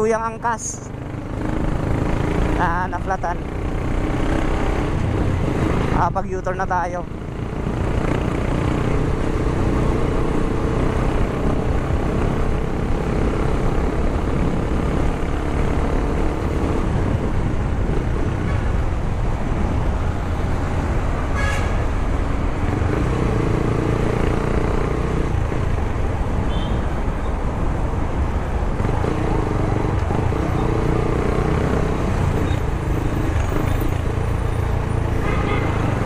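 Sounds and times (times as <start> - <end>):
motorcycle engine cruising: 0.0 - 36.0
traffic: 0.0 - 36.0
wind and road noise: 0.0 - 36.0.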